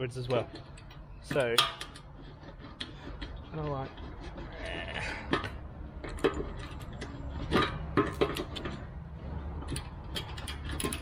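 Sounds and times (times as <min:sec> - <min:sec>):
metal clicks and knocks: 0:00.1 - 0:04.5, 0:05.2 - 0:11.0.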